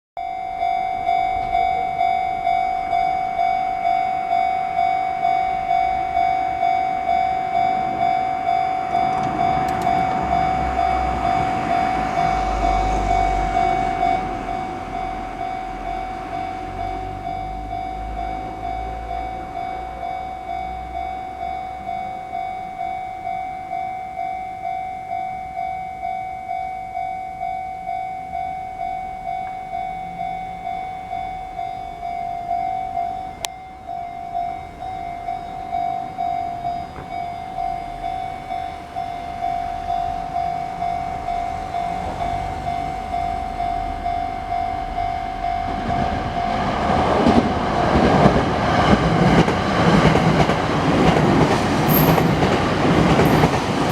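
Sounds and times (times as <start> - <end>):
level crossing warning bell ringing: 0.2 - 53.9
train running noise: 0.4 - 26.2, 28.4 - 53.9.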